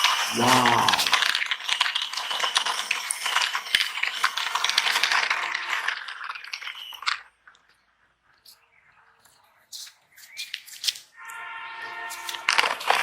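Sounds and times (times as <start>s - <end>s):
plastic toy truck rattling: 0.0s - 11.1s, 11.9s - 13.0s.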